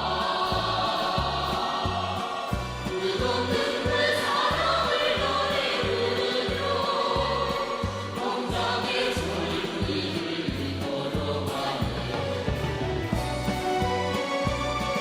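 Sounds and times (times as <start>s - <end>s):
choir singing pop song: 0.0s - 15.0s.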